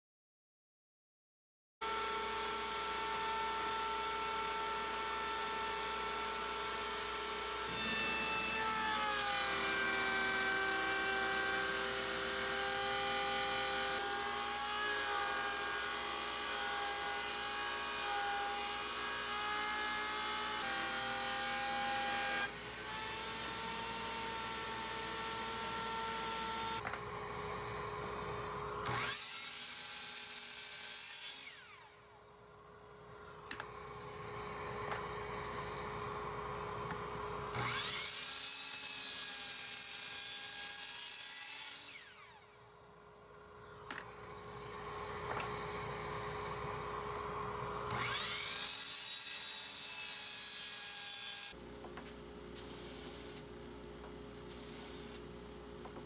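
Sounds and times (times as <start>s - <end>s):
miter saw cutting: 1.8s - 32.4s, 33.2s - 42.7s, 43.6s - 51.6s
router running: 1.8s - 42.9s, 43.5s - 51.6s.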